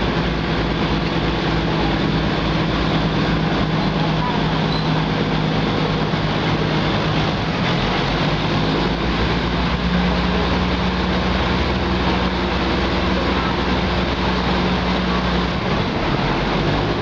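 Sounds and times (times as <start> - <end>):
train engine drone: 0.0 - 17.0
train wheels rumbling on rails: 0.0 - 17.0.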